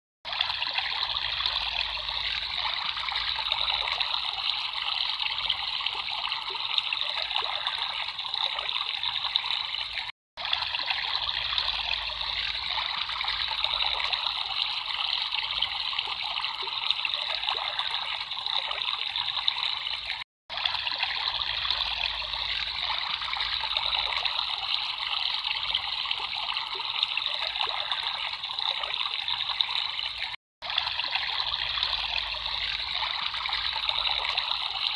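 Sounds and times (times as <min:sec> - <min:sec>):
water trickling: 0:00.3 - 0:34.9.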